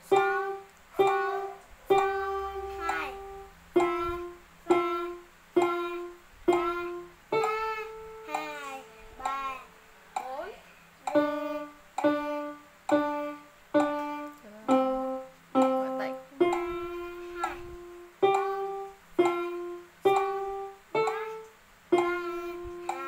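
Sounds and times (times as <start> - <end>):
electronic keyboard slow melody: 0.0 - 23.0.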